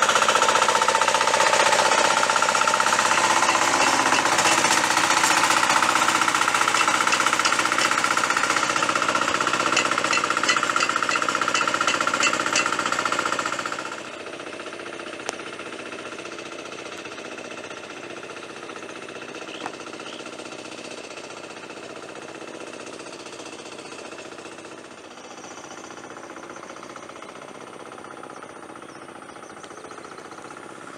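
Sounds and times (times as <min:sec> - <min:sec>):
diesel tractor engine rattling: 0:00.0 - 0:30.9.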